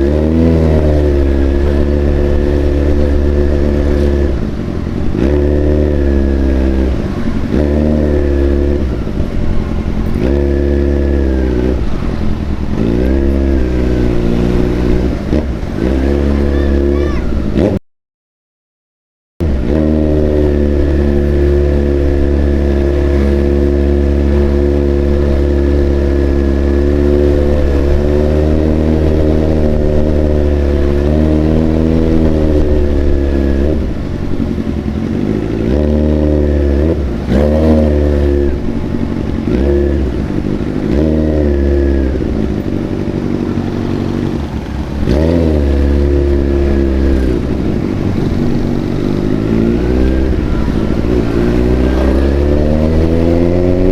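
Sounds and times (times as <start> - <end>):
motorcycle engine revving: 0.0 - 17.8, 19.4 - 53.9.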